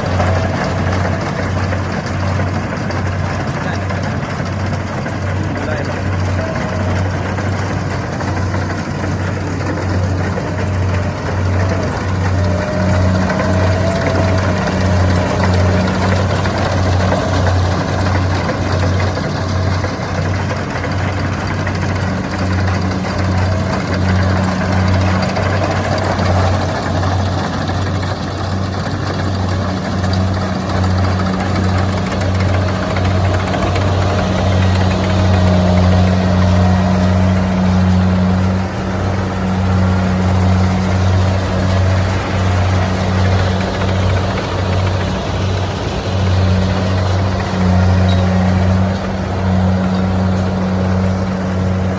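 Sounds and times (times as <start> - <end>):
combine harvester engine humming: 0.0 - 51.9.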